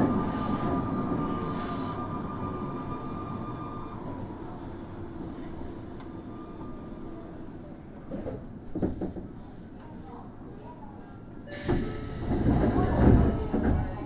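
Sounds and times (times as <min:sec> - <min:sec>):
subway car rolling noise: 0:00.0 - 0:14.0.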